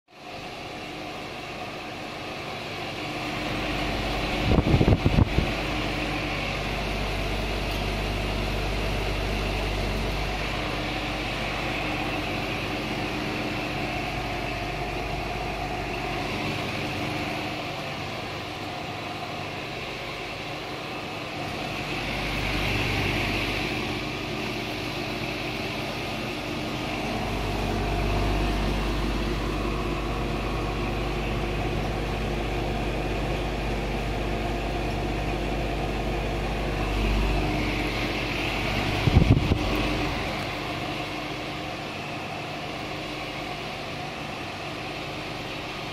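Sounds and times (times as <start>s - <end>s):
air conditioner unit humming: 0.1s - 45.9s
fan rushing: 0.1s - 45.9s.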